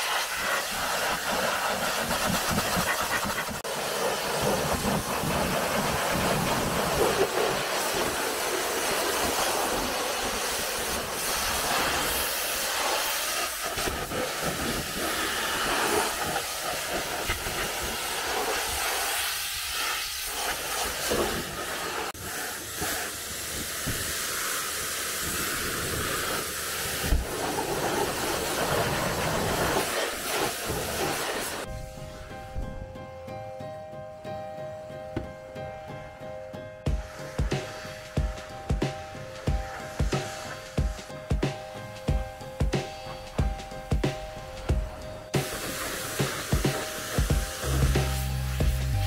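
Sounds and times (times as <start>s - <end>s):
pressure washer spraying water: 0.0s - 32.0s, 36.9s - 49.0s.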